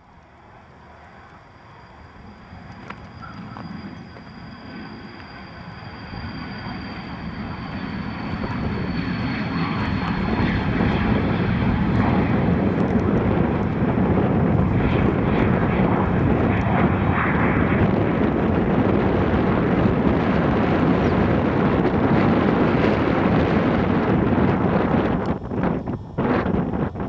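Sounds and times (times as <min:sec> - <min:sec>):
airplane engine running: 0:00.0 - 0:27.0.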